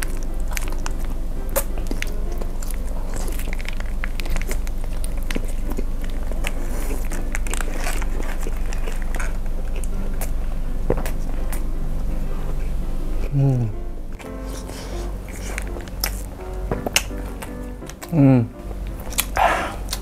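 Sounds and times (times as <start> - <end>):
background music: 0.0 - 20.0
biting and chewing sausage: 0.0 - 20.0.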